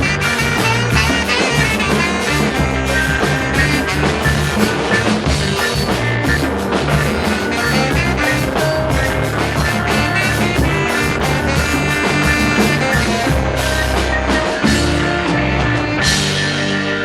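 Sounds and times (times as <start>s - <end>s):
drum hits: 0.0s - 16.9s
reggae band playing: 0.0s - 17.0s.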